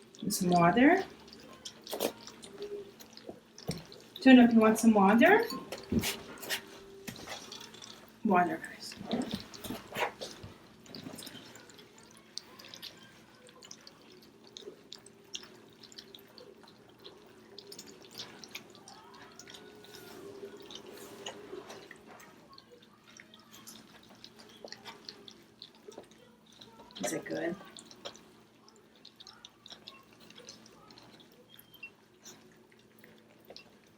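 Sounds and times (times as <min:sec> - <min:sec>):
puppies lapping and eating: 0:00.0 - 0:33.9.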